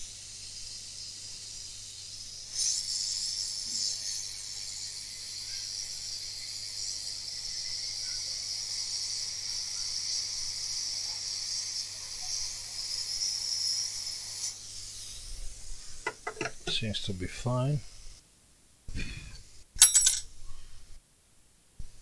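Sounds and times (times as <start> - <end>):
steady high hiss: 0.0 - 22.0.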